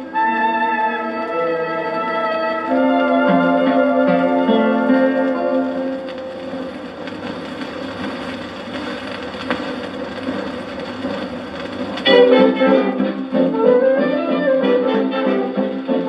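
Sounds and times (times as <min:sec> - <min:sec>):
record hiss and crackle: 0:00.0 - 0:16.0.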